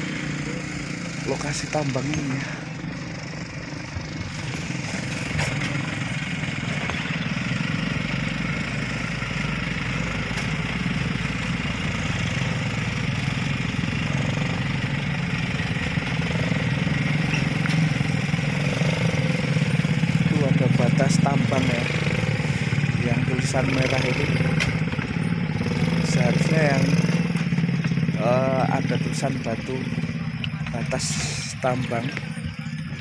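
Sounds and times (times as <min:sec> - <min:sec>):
engine running at low speed: 0:00.0 - 0:33.0.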